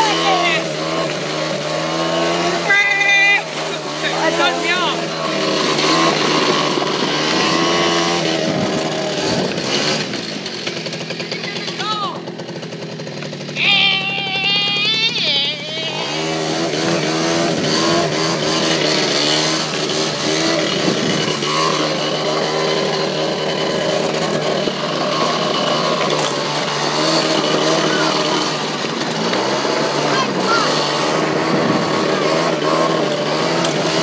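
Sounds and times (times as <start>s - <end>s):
electric bike motor whining: 0.0s - 34.0s
wind: 0.0s - 34.0s.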